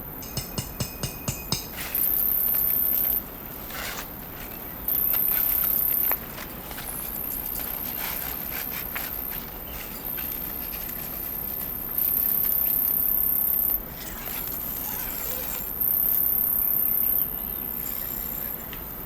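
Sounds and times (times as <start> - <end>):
insects trilling: 0.2 - 19.0.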